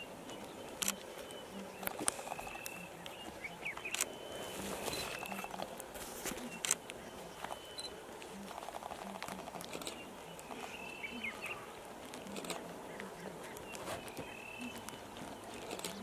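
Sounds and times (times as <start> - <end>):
bird chirping: 0.0 - 16.0
lions crunching and chewing meat: 0.0 - 16.0.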